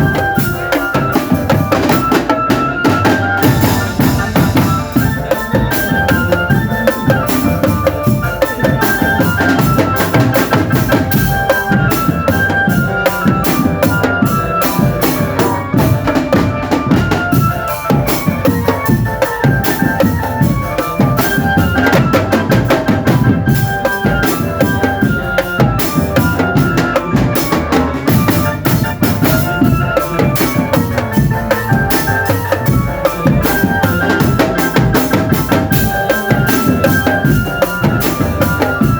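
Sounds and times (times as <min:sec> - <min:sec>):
melody of short pitched notes: 0:00.0 - 0:38.9
snare and bass drums beating: 0:00.0 - 0:38.9.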